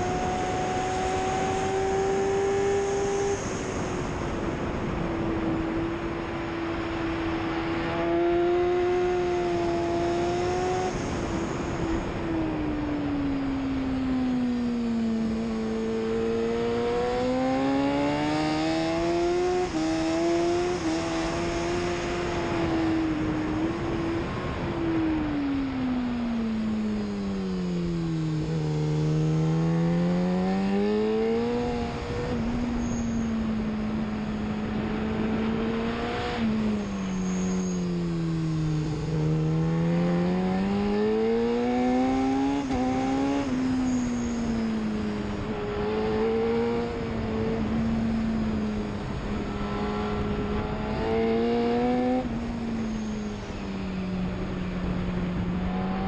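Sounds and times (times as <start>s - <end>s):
motorcycle engine at racing pace: 0.0s - 56.0s
wind rushing over microphone: 0.0s - 56.0s.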